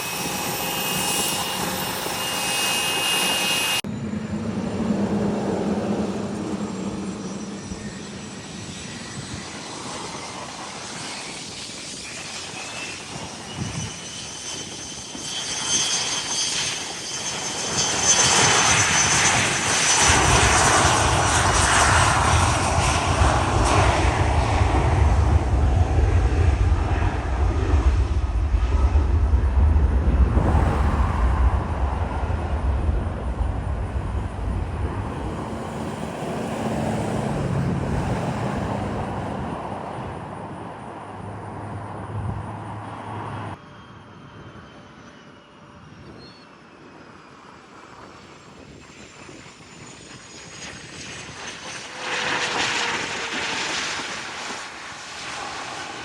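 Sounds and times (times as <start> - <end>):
jet engine whine and rumble: 0.0 - 56.0.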